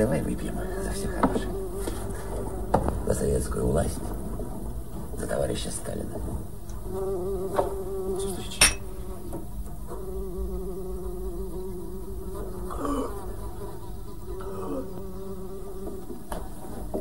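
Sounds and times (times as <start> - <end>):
fly buzzing: 0.0 - 17.0.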